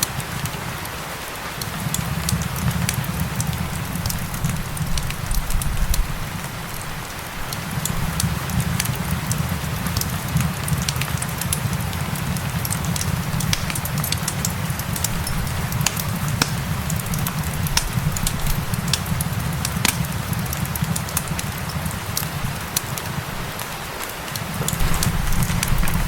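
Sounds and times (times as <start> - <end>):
fireplace crackling and popping: 0.0 - 26.0
steady rain hiss: 0.0 - 26.0.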